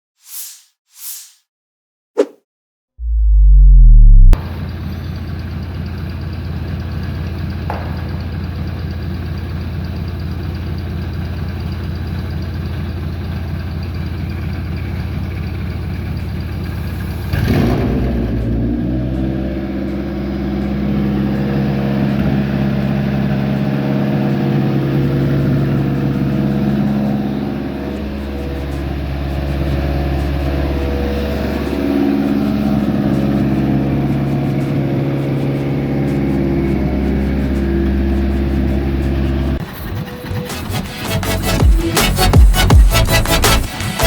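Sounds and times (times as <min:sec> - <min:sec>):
engine idling: 0:03.9 - 0:44.0.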